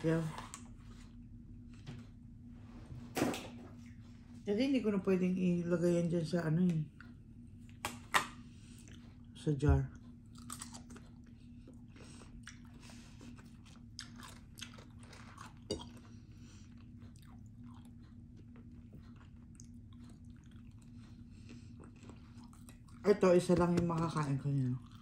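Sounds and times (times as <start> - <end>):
faint steady hum: 0.0 - 25.0
chewing and crunching food: 0.1 - 2.2, 6.6 - 25.0.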